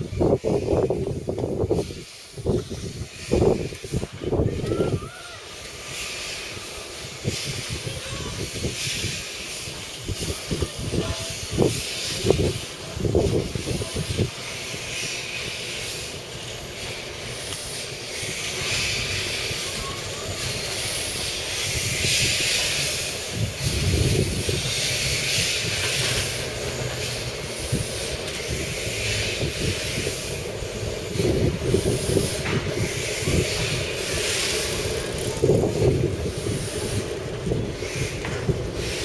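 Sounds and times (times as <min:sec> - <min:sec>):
locomotive rumbling and clanks: 0:00.0 - 0:39.0
steam hissing: 0:00.0 - 0:39.0.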